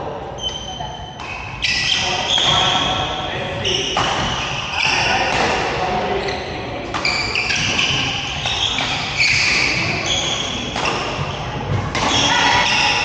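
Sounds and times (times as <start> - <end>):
background chatter: 0.0 - 13.0
sneakers squeaking on floor: 0.4 - 13.0
racket hitting shuttlecock: 1.2 - 5.8, 6.8 - 13.0.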